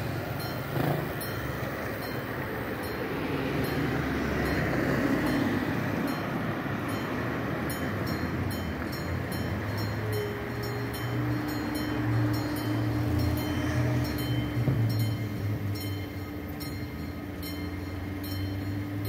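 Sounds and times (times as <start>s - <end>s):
low rumble of road traffic: 0.0s - 19.0s
level crossing bell ringing: 0.3s - 19.0s.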